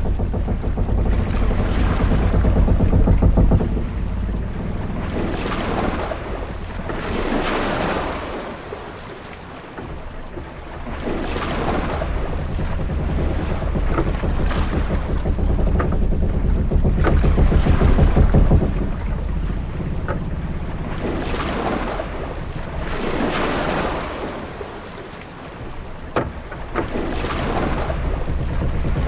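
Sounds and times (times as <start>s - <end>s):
heavy low rumble: 0.0s - 8.2s, 10.0s - 24.6s, 25.6s - 29.0s
ship creaks: 0.0s - 29.0s
waves washing against hull: 0.0s - 29.0s
wind: 0.0s - 29.0s.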